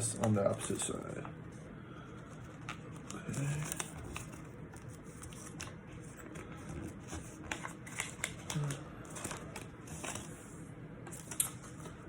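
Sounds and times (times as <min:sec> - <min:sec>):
paper rustling and creasing: 0:02.2 - 0:12.0.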